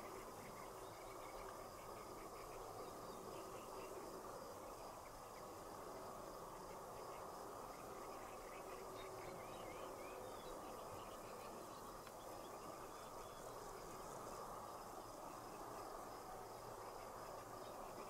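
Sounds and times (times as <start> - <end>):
faint insect calls: 0.0 - 18.0.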